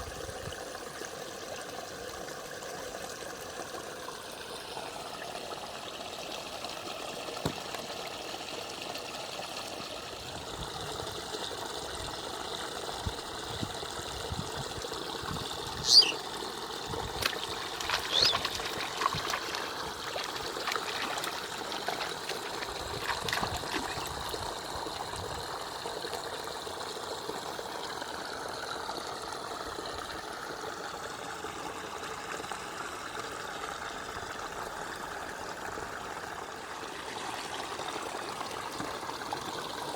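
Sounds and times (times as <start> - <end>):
water trickling in a canal: 0.0 - 39.9.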